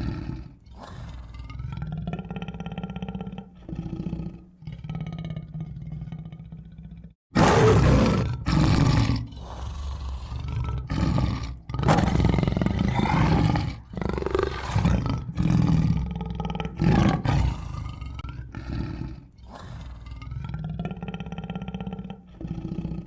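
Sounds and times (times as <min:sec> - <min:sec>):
tiger roaring and growling: 0:00.0 - 0:23.0.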